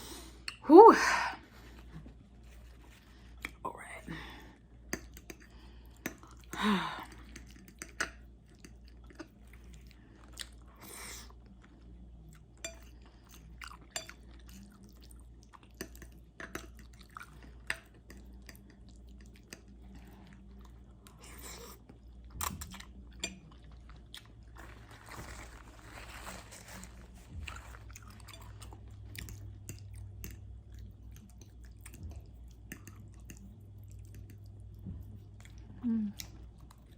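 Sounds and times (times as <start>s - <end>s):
wet chewing mouth sounds: 5.0s - 25.2s, 26.7s - 36.9s.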